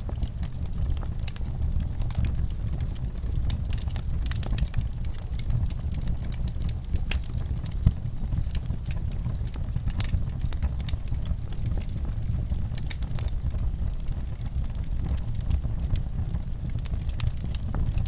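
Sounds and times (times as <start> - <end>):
fire crackles and pops: 0.0 - 18.0
wood fire rumbling: 0.0 - 18.0.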